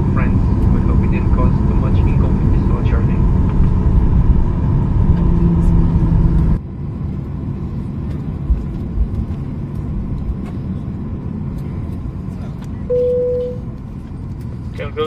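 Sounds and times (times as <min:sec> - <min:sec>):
aircraft cabin rumble: 0:00.0 - 0:15.0
droning hum: 0:00.0 - 0:15.0.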